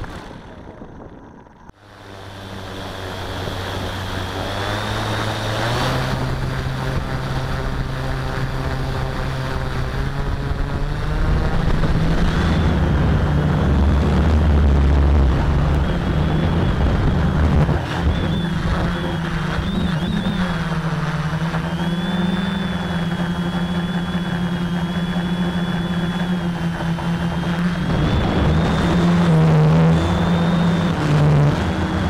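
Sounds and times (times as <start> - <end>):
quadcopter propellers whirring: 0.0 - 32.0.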